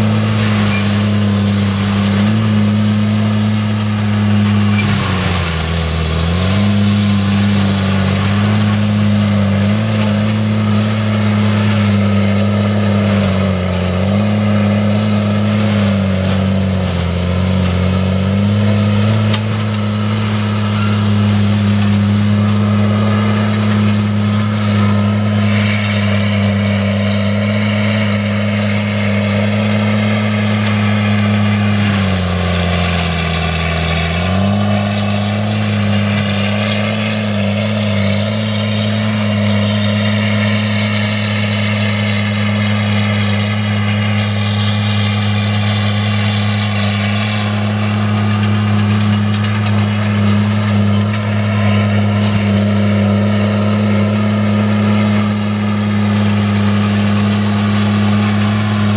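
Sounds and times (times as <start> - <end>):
forestry mulcher running: 0.0 - 58.9.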